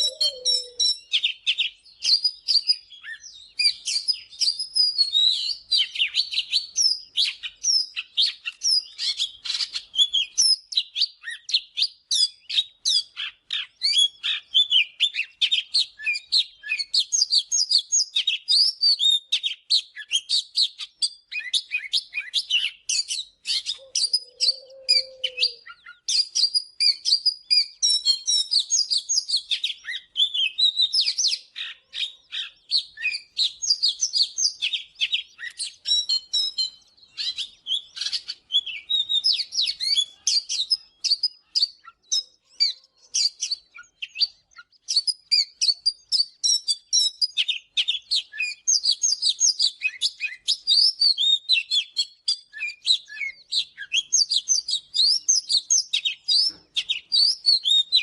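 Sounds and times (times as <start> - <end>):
bird singing varied whistles: 0.0 - 58.0.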